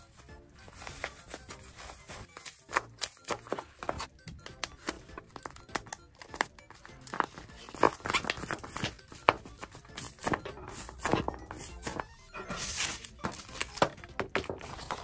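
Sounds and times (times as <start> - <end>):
paper and tape crinkling: 0.0 - 15.0
soft background music: 0.0 - 15.0.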